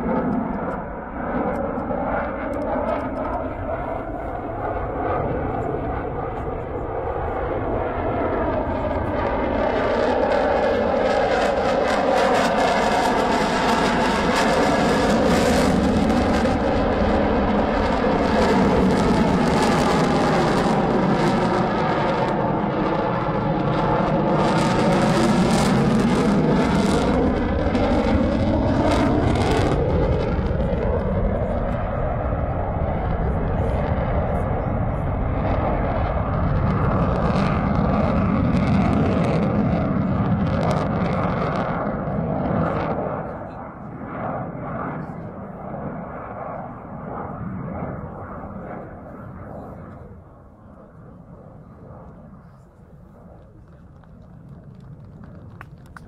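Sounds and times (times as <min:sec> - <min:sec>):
loud jet engine noise: 0:00.0 - 0:56.0.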